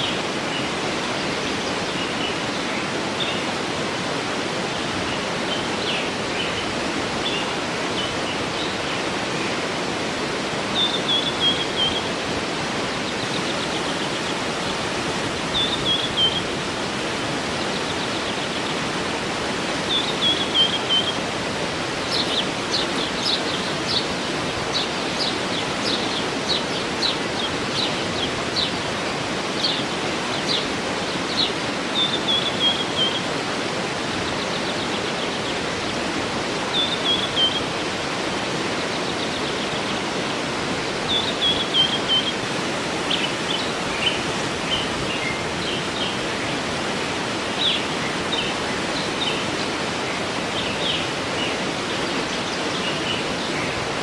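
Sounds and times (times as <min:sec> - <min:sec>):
waterfall rushing: 0:00.0 - 0:54.0
birds chirping and trilling: 0:04.3 - 0:54.0.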